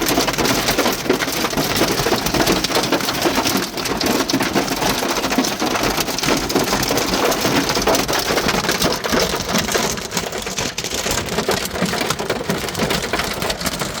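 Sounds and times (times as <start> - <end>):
hailstones clattering: 0.0 - 14.0.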